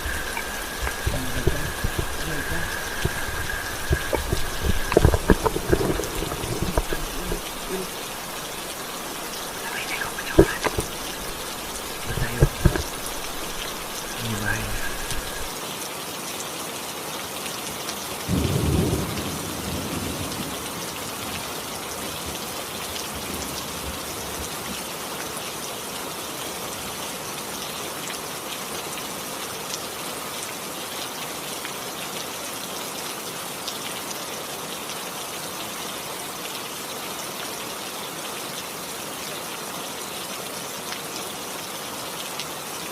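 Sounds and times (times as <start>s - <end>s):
steady rain: 0.0s - 42.9s.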